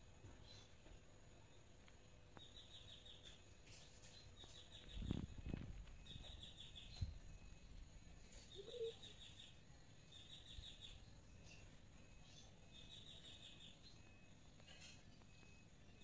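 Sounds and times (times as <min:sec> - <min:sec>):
faint bird trills: 0:02.4 - 0:16.0.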